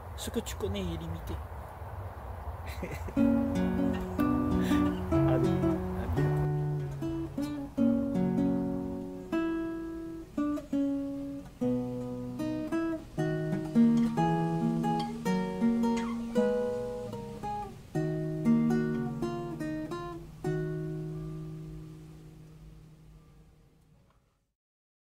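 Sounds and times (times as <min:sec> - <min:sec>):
acoustic guitar: 0:03.1 - 0:24.1.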